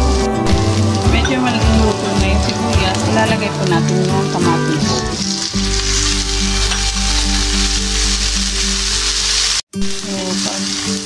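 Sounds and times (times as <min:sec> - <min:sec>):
background music: 0:00.0 - 0:11.0
vegetables sizzling in hot oil: 0:00.0 - 0:11.0.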